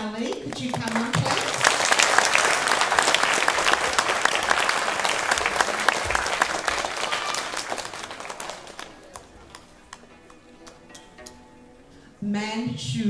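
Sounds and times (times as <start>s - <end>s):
children clapping: 0.0s - 11.4s.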